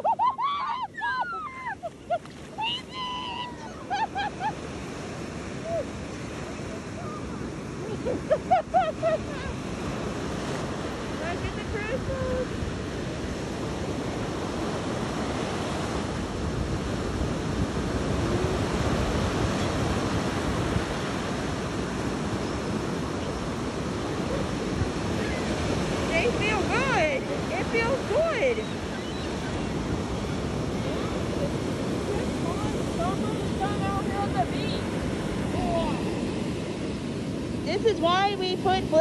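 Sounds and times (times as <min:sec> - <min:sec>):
waves breaking on sand: 0:00.0 - 0:39.0
wind buffeting microphone: 0:01.2 - 0:39.0.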